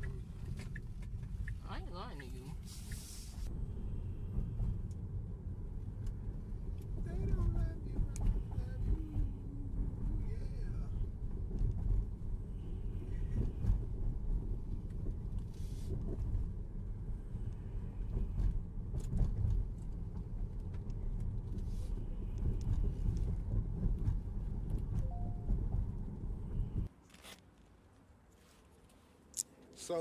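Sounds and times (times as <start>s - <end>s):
car interior engine and tyre rumble: 0.0s - 30.0s.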